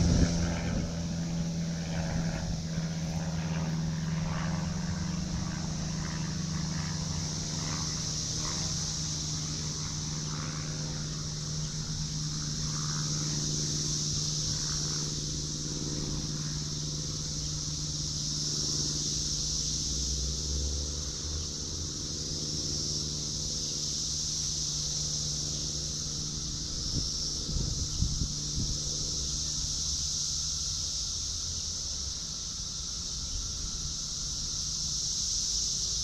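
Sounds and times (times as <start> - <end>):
constant low hum: 0.0 - 36.0
high-pitched insect drone: 0.0 - 36.0.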